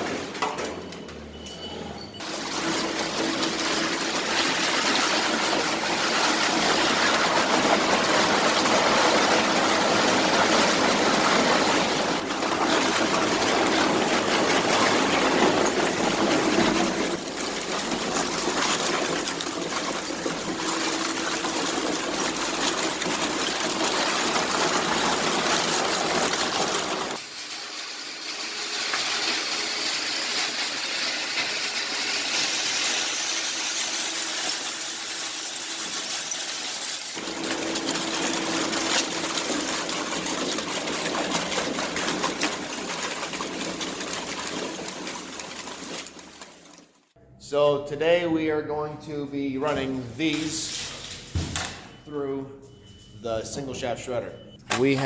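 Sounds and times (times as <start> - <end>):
shredder crunching scrap: 2.2 - 46.9.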